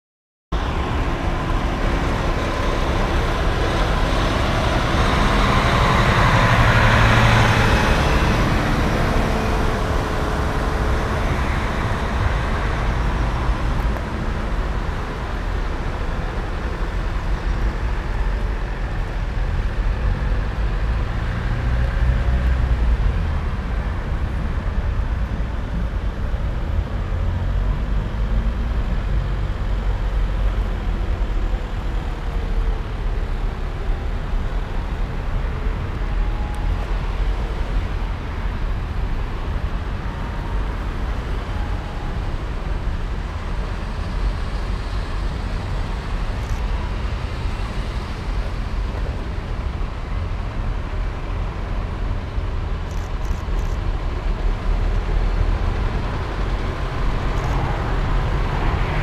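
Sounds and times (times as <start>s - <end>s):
engines rumbling: 0.5s - 59.0s
lorry diesel engine passing: 0.6s - 18.6s, 20.2s - 59.0s.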